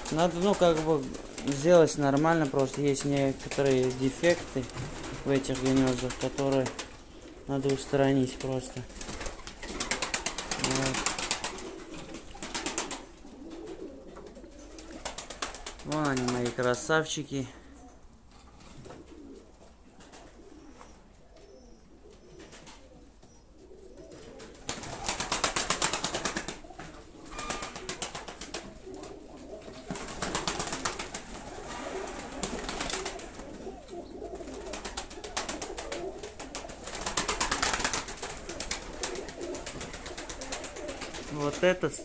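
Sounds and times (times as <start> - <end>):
pigeons cooing: 0.0 - 16.8, 17.5 - 42.0
wings fluttering: 0.0 - 16.9, 24.0 - 41.8.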